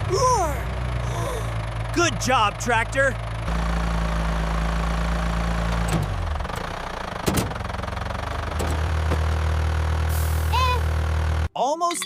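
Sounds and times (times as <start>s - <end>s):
tractor engine idling: 0.0s - 11.5s.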